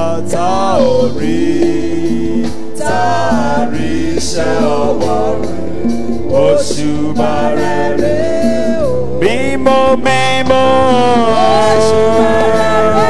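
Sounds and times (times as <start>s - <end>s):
church band playing: 0.0s - 13.0s
gospel singing: 0.0s - 13.0s.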